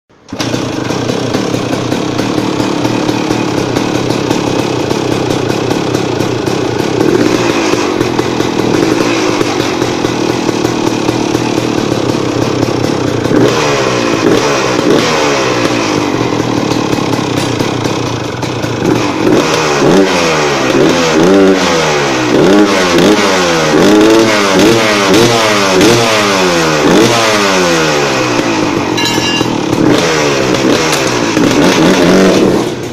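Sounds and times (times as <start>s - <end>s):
two-stroke engine revving: 0.2s - 32.9s.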